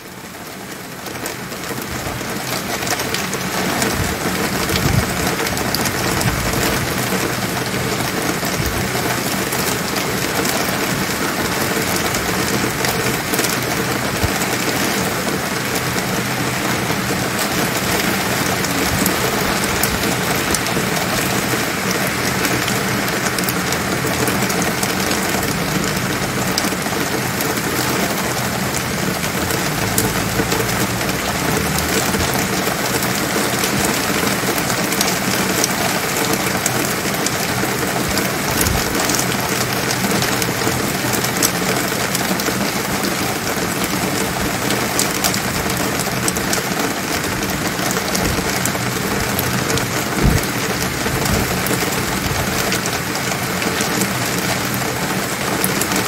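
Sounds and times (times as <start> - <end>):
rain hiss: 0.1 - 56.0
raindrop ticks: 0.5 - 56.0.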